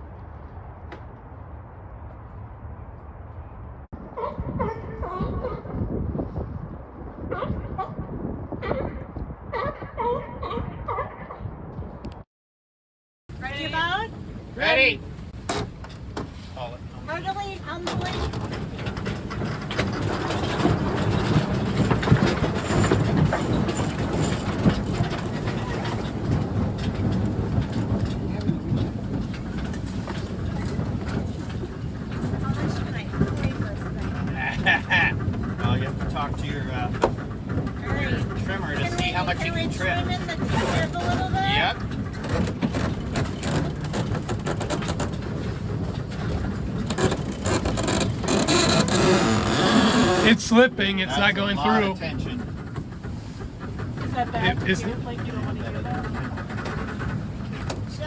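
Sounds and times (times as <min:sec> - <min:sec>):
wind buffeting microphone: 0:00.0 - 0:12.2, 0:13.3 - 0:58.0.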